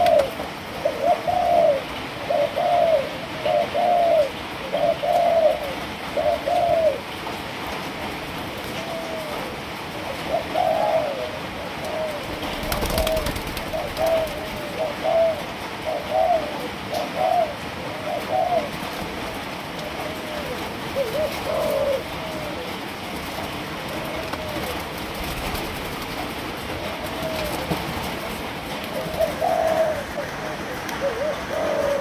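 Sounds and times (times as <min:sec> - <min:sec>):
doves cooing: 0:00.0 - 0:32.0.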